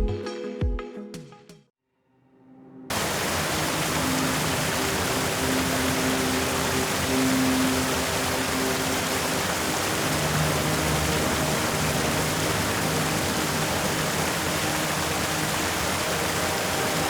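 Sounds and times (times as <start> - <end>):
steady rushing noise: 2.9 - 17.0.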